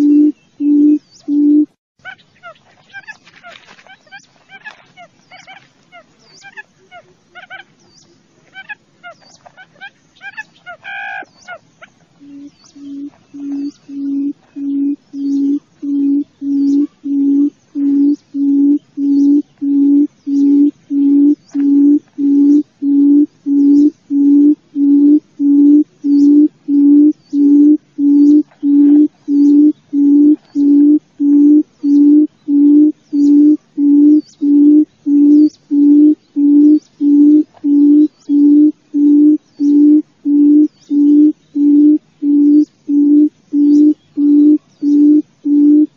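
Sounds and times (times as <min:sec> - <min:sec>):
faint high chirps: 0:00.0 - 0:04.3, 0:05.0 - 0:45.9
quail hooting: 0:00.0 - 0:07.8, 0:08.4 - 0:45.9.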